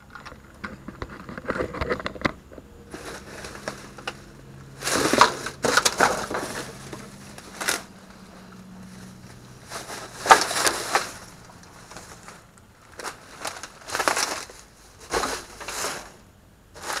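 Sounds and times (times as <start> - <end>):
plastic bags rustling and crinkling: 0.6 - 17.0.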